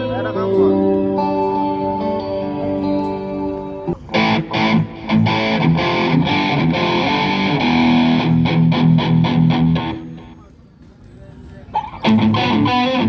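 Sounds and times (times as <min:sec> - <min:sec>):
distorted electric guitar strumming: 0:00.0 - 0:10.4, 0:11.8 - 0:13.0.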